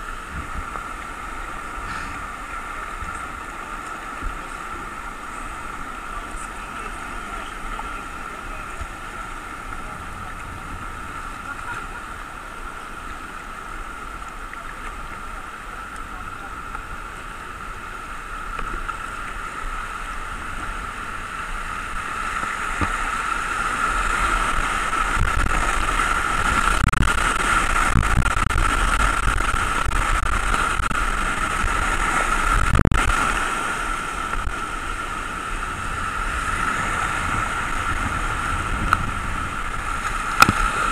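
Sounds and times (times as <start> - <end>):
rushing whitewater: 0.0 - 40.9.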